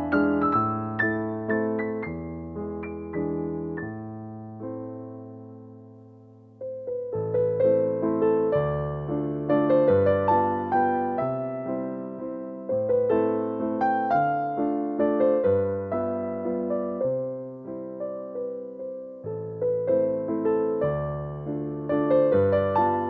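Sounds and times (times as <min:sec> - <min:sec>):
solo piano waltz: 0:00.0 - 0:23.0.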